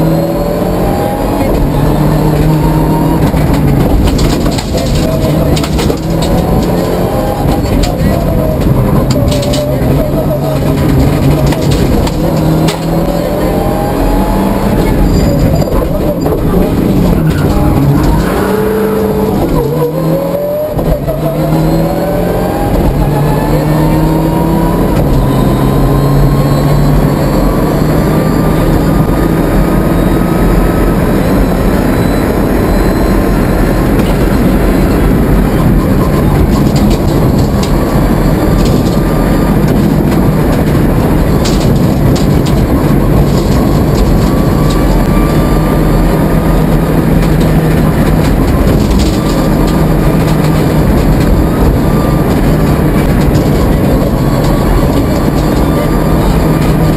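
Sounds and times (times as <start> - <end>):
car engine under hard driving: 0.0 - 56.9
road and tyre noise: 0.0 - 56.9.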